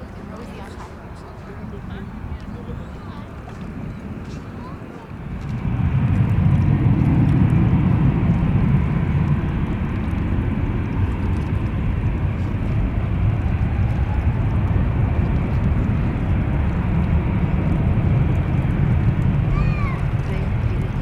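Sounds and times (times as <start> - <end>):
faint jet engine whine: 0.0 - 21.0
jet engines rumbling: 0.0 - 21.0.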